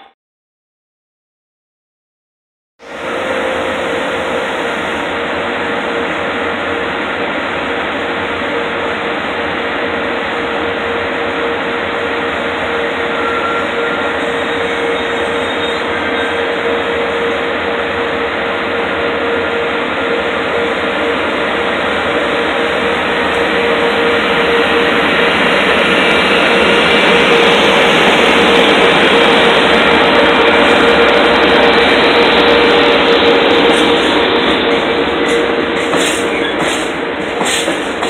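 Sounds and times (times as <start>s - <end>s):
train passing: 2.8s - 38.0s.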